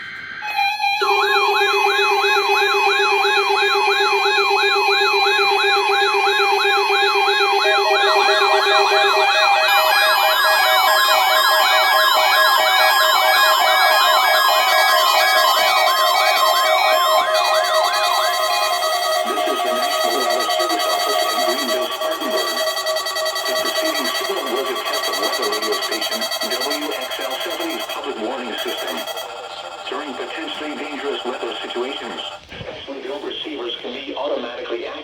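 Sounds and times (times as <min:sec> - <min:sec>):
yelp siren tones: 0:00.0 - 0:32.4
steady alert tones: 0:00.4 - 0:32.4.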